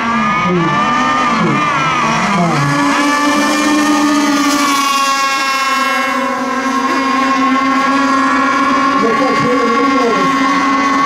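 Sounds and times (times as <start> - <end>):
high-pitched motor whine: 0.0 - 11.0.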